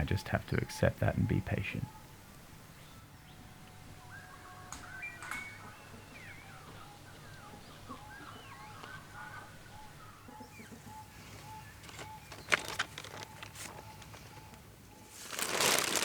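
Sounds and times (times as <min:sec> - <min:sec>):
bird calls: 0:00.5 - 0:15.2.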